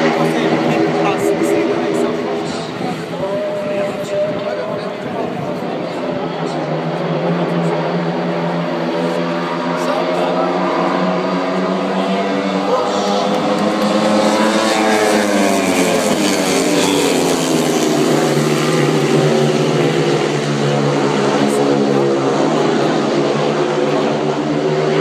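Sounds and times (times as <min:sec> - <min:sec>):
motorbike engines racing: 0:00.0 - 0:25.0.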